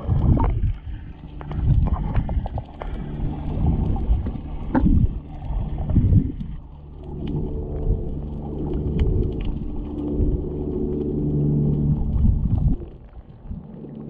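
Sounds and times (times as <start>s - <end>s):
underwater machine hum: 0.0s - 14.0s
underwater rumble: 0.0s - 14.0s
water swishes: 0.0s - 14.0s.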